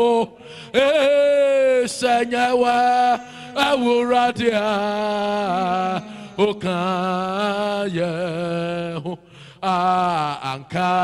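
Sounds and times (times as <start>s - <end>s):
man singing a slow chant: 0.0s - 11.0s.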